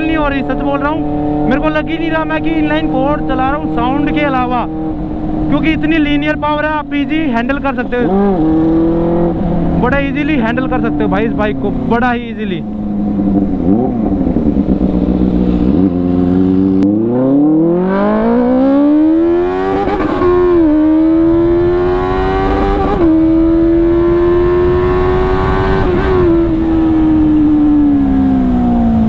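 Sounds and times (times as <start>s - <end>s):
motorcycle engine revving under load: 0.0s - 6.4s, 7.8s - 29.0s.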